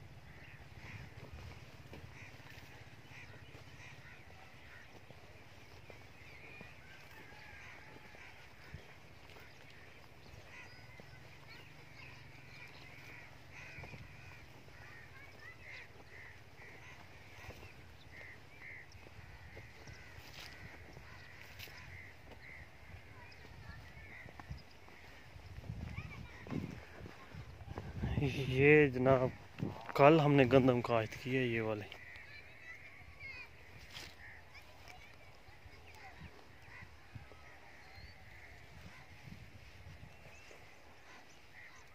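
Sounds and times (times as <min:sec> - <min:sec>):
birds making squeaky calls: 0:00.0 - 0:31.1, 0:31.8 - 0:41.9.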